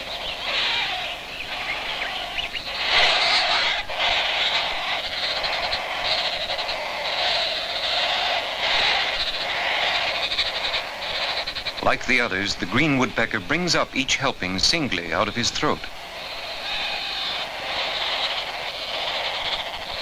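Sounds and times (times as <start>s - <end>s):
nestlings begging calls: 0.0s - 20.0s.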